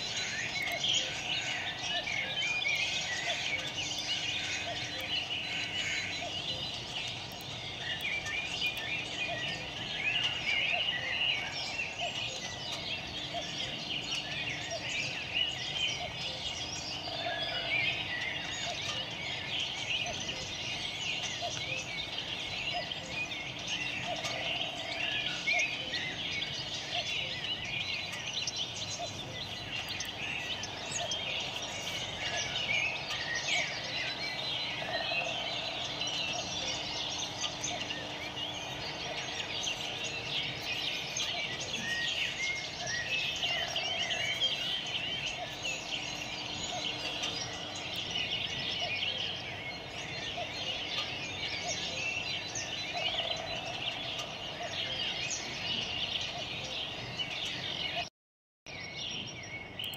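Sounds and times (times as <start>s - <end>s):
birds chirping and twittering: 0.0s - 58.1s, 58.7s - 59.9s.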